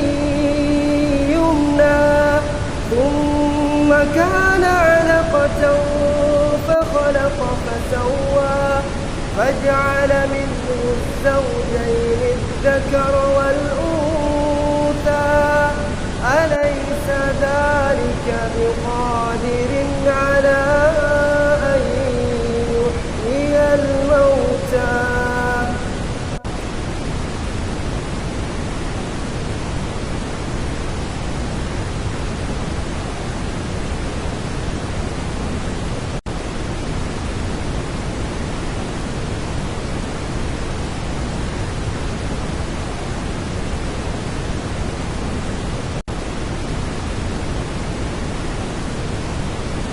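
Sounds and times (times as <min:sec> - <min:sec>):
steady rushing nature sound: 0:00.0 - 0:49.9.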